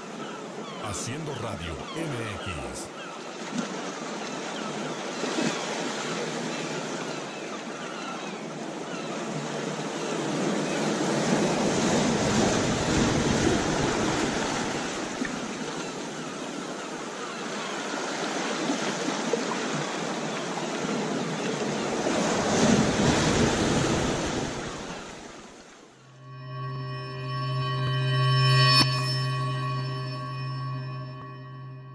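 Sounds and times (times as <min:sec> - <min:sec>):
ocean waves breaking on shore: 0:00.0 - 0:25.8.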